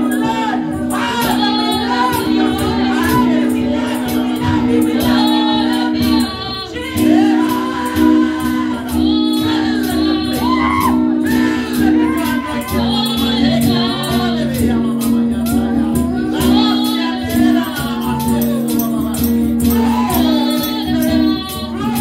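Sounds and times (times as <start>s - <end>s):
steady ticking beat: 0.0s - 22.0s
women singing gospel song: 0.0s - 22.0s.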